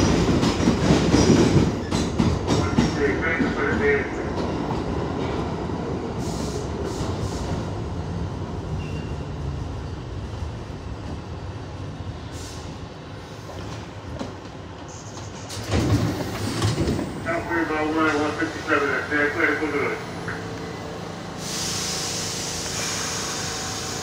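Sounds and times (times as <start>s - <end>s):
subway train rumbling on track: 0.0s - 24.0s.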